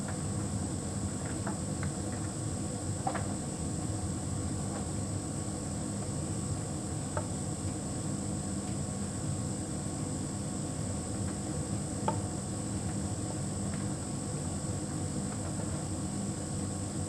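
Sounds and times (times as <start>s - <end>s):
tumble dryer humming with high whine: 0.0s - 17.0s.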